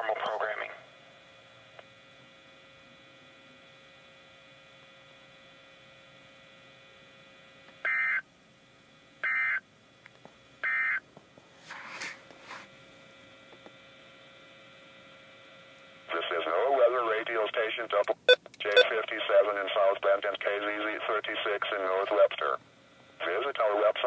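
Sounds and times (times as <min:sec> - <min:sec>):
steady radio hum: 0:00.0 - 0:08.2, 0:08.9 - 0:24.0.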